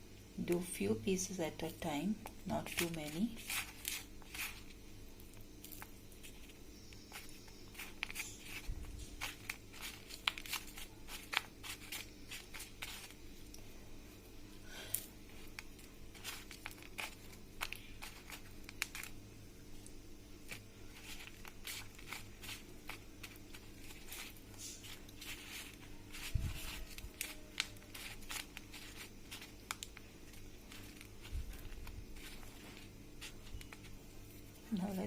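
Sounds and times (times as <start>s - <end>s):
steady low hum: 0.0s - 35.0s
coating crunching and crackling: 2.2s - 13.6s, 15.3s - 35.0s.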